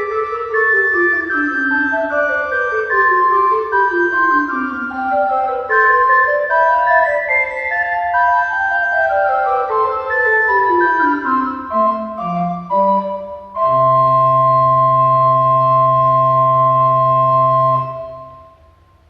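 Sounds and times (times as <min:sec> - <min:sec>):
organ playing: 0:00.0 - 0:18.8.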